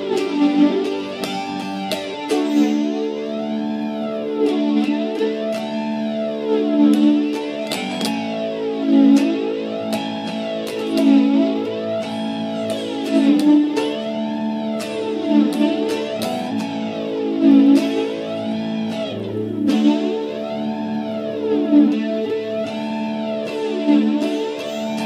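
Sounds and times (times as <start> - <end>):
guitar chords with swirling effect: 0.0 - 25.0.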